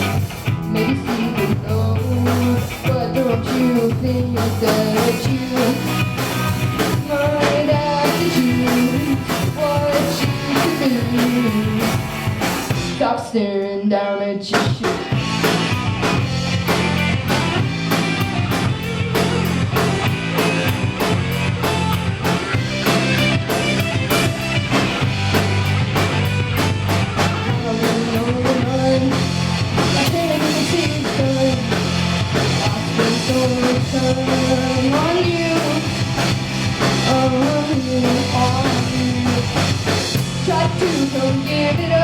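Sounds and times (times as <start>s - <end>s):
rock band playing live: 0.0s - 13.1s, 14.4s - 42.0s
bending guitar lead line: 0.0s - 13.2s, 14.1s - 42.0s.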